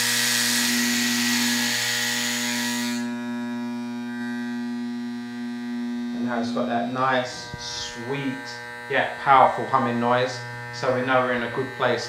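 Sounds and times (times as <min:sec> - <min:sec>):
hair clipper motor humming: 0:00.0 - 0:12.0.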